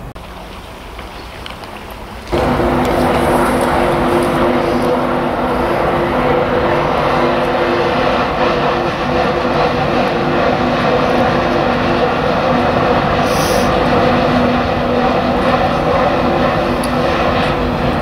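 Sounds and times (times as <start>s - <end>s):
train engine drone: 0.0s - 18.0s.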